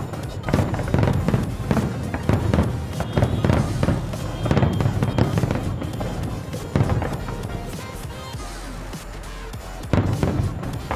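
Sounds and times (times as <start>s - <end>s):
fireworks booming and crackling: 0.0s - 8.5s, 9.1s - 10.9s
music: 0.0s - 10.9s.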